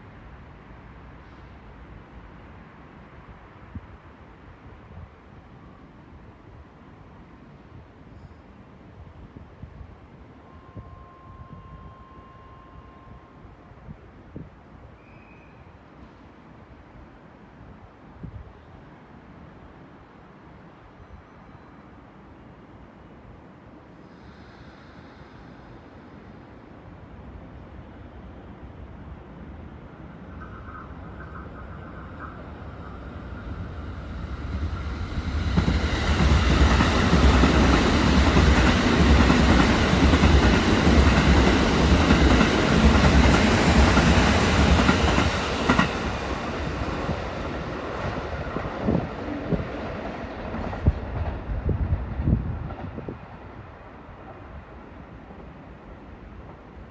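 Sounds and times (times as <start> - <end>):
train passing through station: 0.0 - 56.9.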